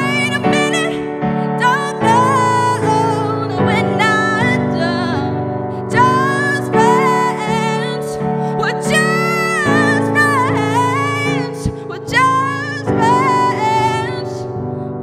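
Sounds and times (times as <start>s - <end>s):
sustained keyboard piano chords: 0.0s - 15.0s
woman singing: 0.0s - 15.0s.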